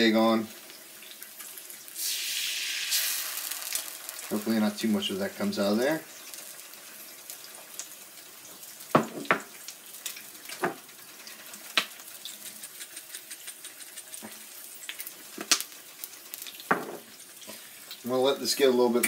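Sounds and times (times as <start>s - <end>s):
food sizzling on a griddle: 0.0s - 19.0s.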